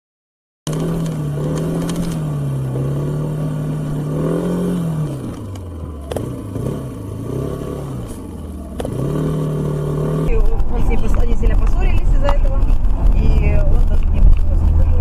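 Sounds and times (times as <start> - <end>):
car engine running: 0.7 - 15.0.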